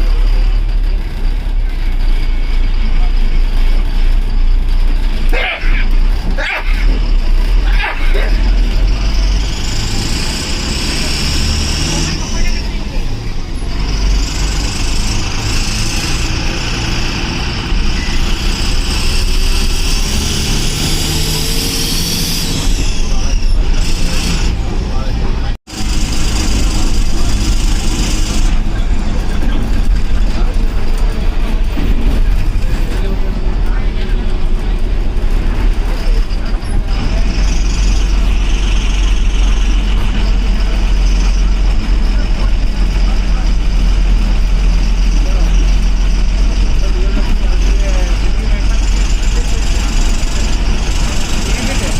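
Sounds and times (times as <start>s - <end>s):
diesel bus engine running: 0.0s - 51.9s.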